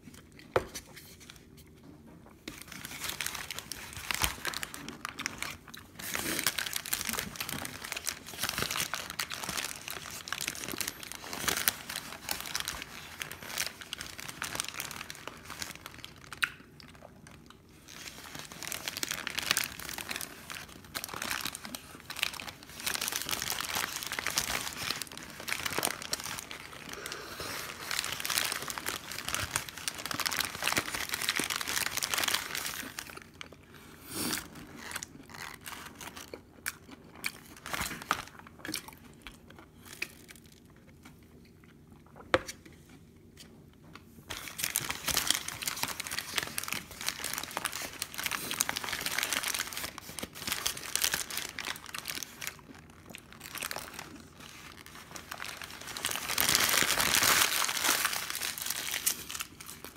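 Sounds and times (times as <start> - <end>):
paper wrapper crinkling: 2.5 - 33.6, 34.4 - 36.5, 37.3 - 40.7, 44.3 - 59.9.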